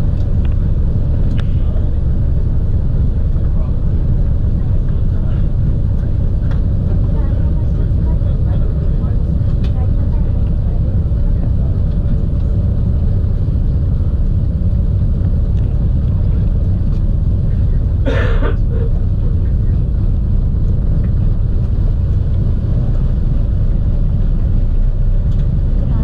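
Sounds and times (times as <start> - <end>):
aircraft engine rumbling: 0.0 - 26.0.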